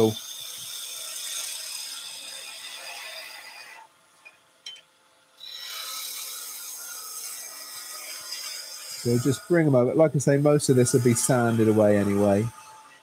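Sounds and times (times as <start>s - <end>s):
chisel scraping spinning wood: 0.0s - 3.9s, 5.4s - 13.0s.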